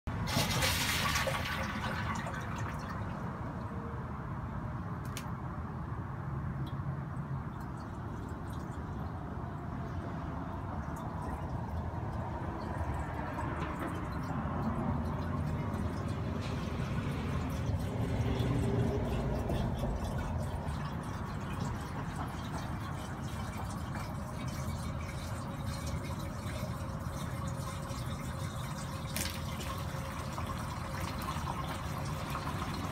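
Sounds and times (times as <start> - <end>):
water swirling and splashing: 0.1 - 3.6, 7.6 - 32.9.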